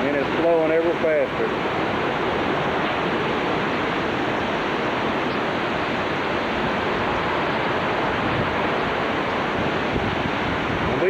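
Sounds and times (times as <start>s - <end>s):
hurricane wind with driving rain: 0.0s - 11.0s
wind buffeting microphone: 0.0s - 11.0s.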